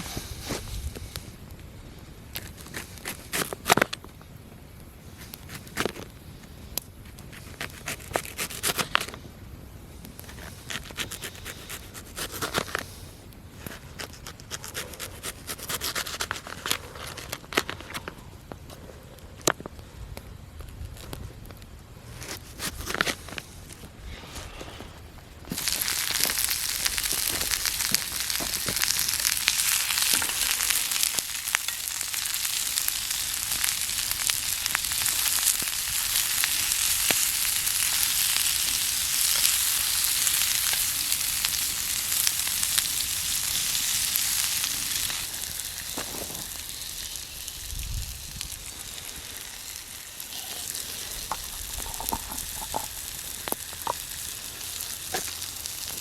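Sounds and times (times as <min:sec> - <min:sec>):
food sizzling over campfire: 0:00.0 - 0:56.0
pops and crackles: 0:02.3 - 0:09.3, 0:10.0 - 0:24.0, 0:24.7 - 0:56.0.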